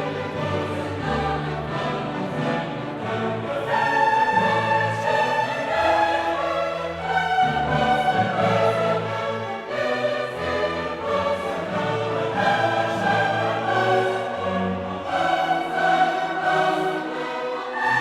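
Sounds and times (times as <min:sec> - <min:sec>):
choir singing sustained chords: 0:00.0 - 0:18.0
orchestra playing: 0:00.0 - 0:18.0.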